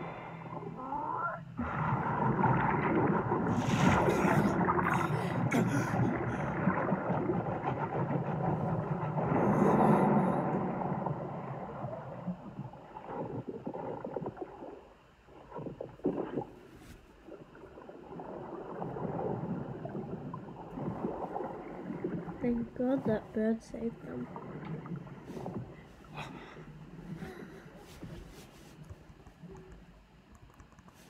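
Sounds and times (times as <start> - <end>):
muffled underwater rushing water: 0.0 - 31.0.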